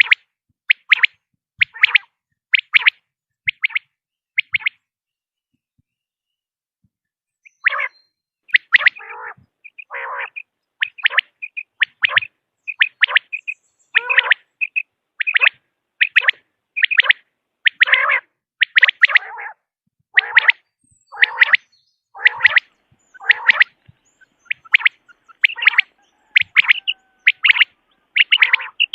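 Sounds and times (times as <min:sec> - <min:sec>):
quail calling: 0:00.0 - 0:04.8, 0:07.5 - 0:28.9.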